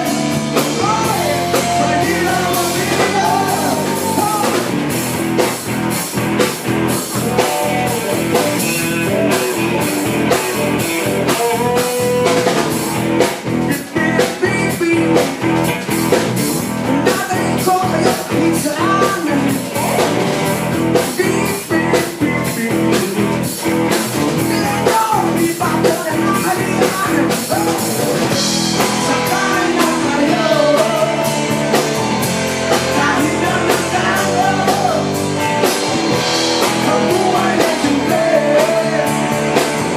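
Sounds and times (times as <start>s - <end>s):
person singing: 0.0s - 4.8s, 7.1s - 15.6s, 16.8s - 20.2s, 20.9s - 23.5s, 24.4s - 28.2s, 28.8s - 31.8s, 32.7s - 35.4s, 36.6s - 39.9s
drum kit steady beat: 0.0s - 39.9s
guitar: 0.0s - 39.9s.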